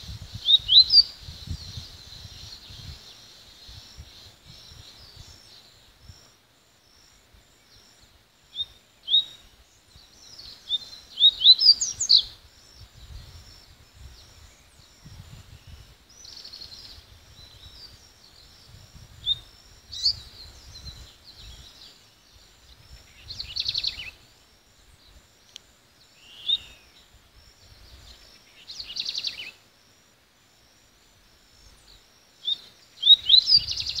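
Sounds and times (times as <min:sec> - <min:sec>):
bird singing trilled notes: 0:00.0 - 0:06.3, 0:06.9 - 0:24.4, 0:26.0 - 0:29.6, 0:31.6 - 0:34.0.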